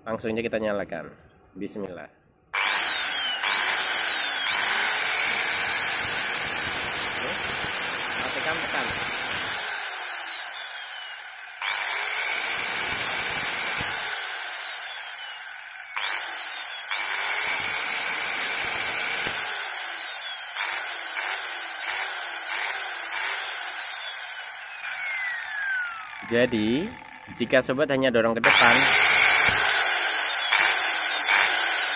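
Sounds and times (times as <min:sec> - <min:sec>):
angle grinder whining: 0:02.6 - 0:27.6, 0:28.4 - 0:31.9.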